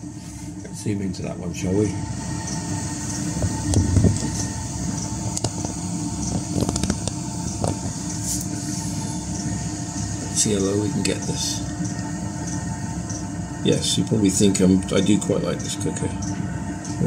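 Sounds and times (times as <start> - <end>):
diesel space heater rumbling: 0.0 - 17.0
gas camping stove burning: 0.0 - 17.0.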